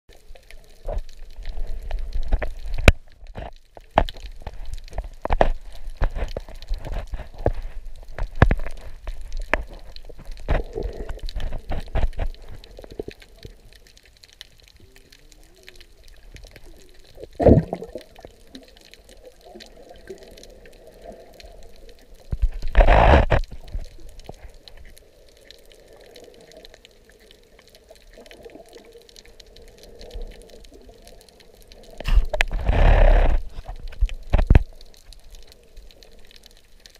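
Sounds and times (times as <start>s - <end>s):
rush of water: 0.1s - 36.9s.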